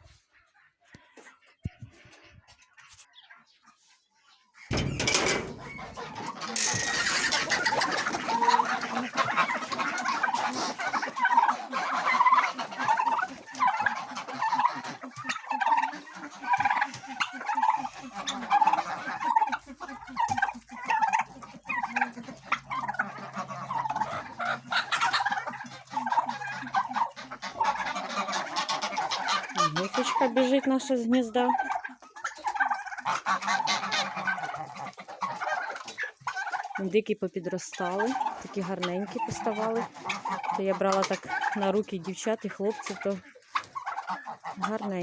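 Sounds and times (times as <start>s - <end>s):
chickens and turkeys calling: 0.0s - 45.0s.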